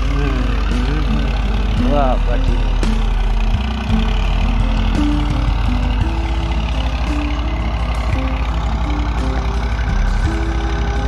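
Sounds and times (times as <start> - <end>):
tractor engine droning under load: 0.0 - 11.0.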